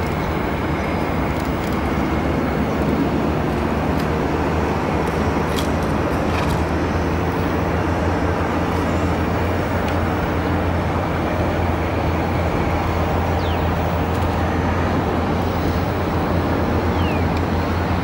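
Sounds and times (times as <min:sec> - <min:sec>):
constant rushing noise: 0:00.0 - 0:18.0.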